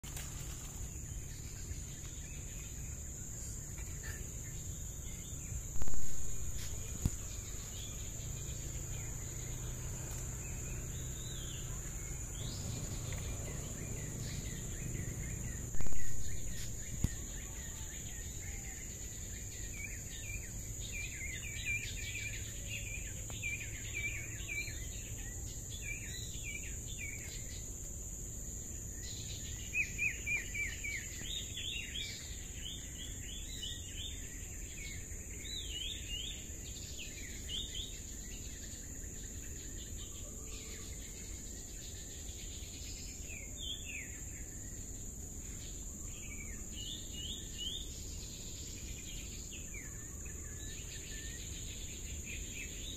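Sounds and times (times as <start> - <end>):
outdoor background noise: 0.0 - 52.9.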